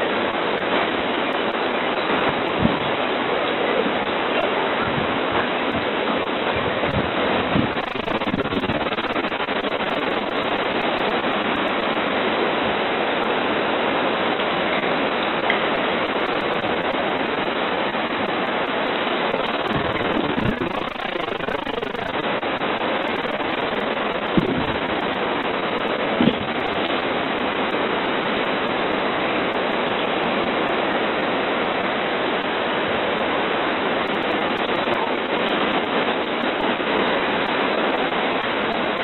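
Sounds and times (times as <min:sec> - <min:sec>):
heavy rain: 0:00.0 - 0:39.0
hurricane wind: 0:00.0 - 0:39.0.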